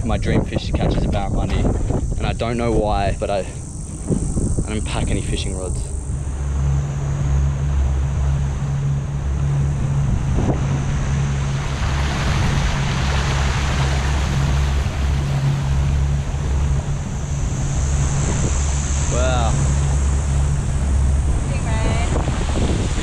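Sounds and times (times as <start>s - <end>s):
outboard motor droning: 0.0s - 23.0s
water rushing along hull: 0.0s - 23.0s
wind buffeting microphone: 0.0s - 23.0s.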